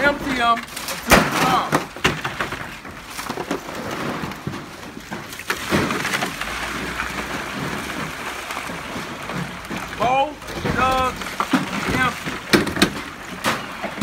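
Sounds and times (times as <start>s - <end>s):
water splashing onto ice: 0.0s - 14.0s.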